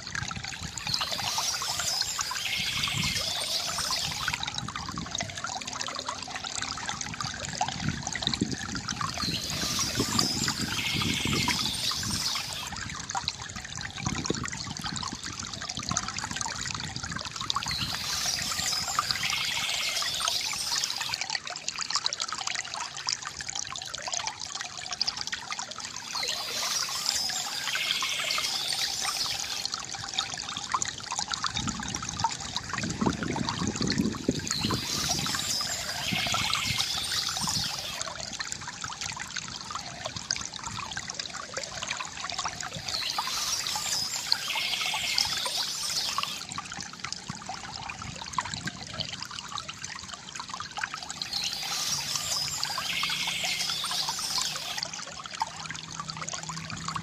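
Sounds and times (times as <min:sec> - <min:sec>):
fountain water trickling: 0:00.0 - 0:57.0.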